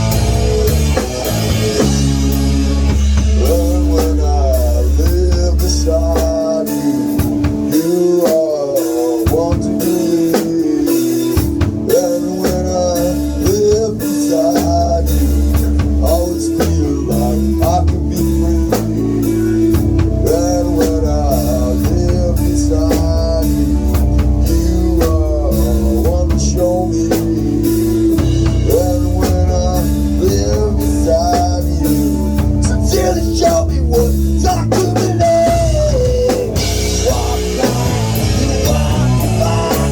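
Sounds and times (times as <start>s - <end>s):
bass guitar: 0.0s - 39.9s
drum kit beat: 0.0s - 39.9s
electric guitar: 0.0s - 39.9s.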